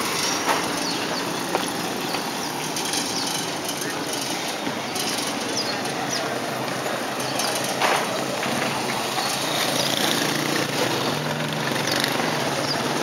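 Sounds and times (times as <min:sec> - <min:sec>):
motorcycle engines running: 0:00.0 - 0:13.0
steady traffic hiss: 0:00.0 - 0:13.0.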